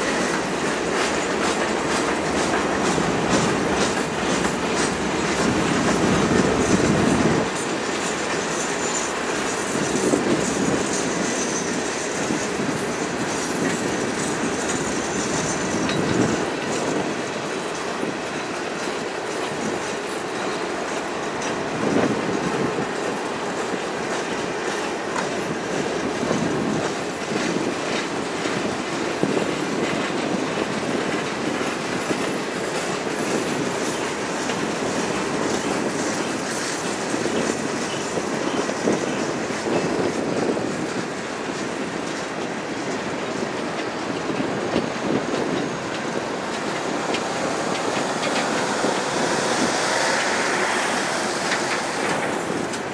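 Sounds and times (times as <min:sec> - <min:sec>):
train wheels clattering on rails: 0:00.0 - 0:52.9.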